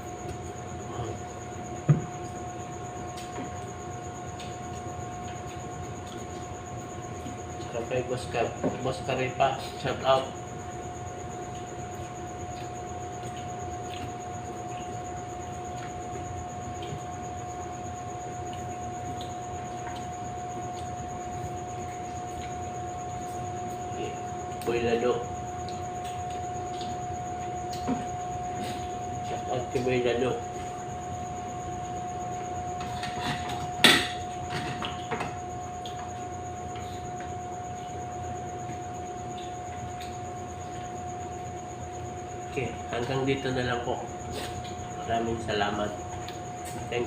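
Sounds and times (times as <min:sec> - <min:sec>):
background hum: 0:00.0 - 0:47.0.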